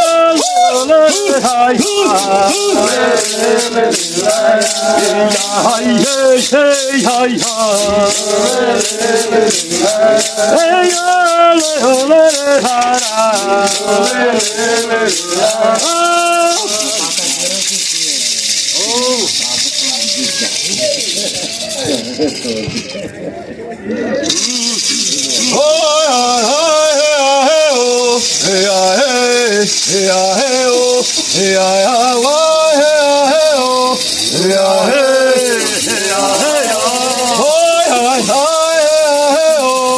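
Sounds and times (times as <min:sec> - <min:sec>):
voices singing a chant: 0:00.0 - 0:22.2, 0:24.2 - 0:39.9
maraca rattle shaken: 0:00.0 - 0:23.4, 0:24.2 - 0:39.9.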